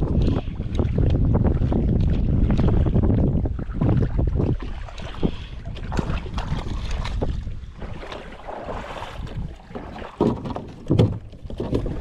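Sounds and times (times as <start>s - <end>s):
water splashing: 0.0s - 12.0s
wind buffeting microphone: 0.0s - 12.0s.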